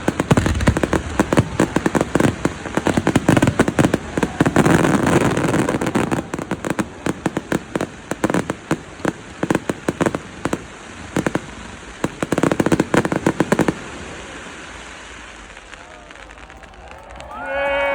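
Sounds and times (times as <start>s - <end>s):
fireworks bangs and pops: 0.0s - 17.5s.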